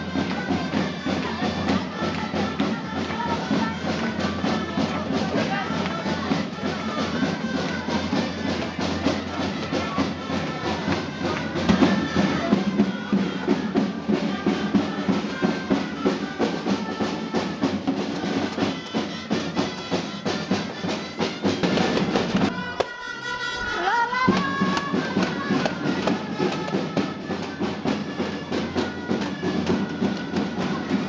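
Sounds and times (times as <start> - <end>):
drums beating a steady rhythm: 0.0 - 31.0.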